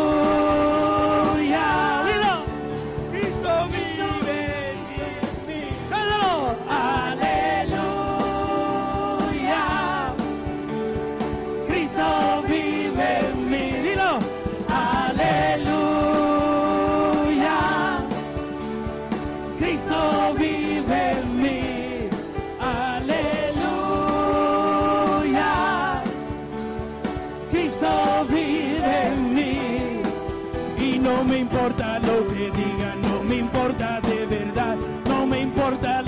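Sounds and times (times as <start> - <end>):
man singing: 0.0 - 10.2, 11.7 - 18.2, 19.6 - 26.1, 27.5 - 36.0
band playing gospel music: 0.0 - 36.0.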